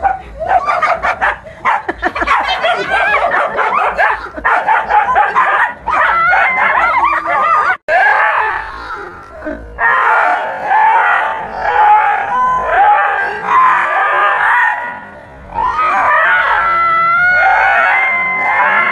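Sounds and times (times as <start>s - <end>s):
dogs barking excitedly: 0.0s - 8.6s, 9.8s - 18.9s.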